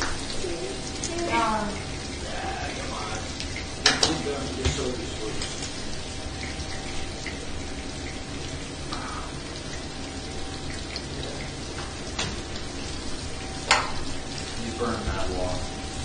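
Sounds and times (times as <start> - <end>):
faint steady hum: 0.0 - 16.0
rain-like background hiss: 0.0 - 16.0.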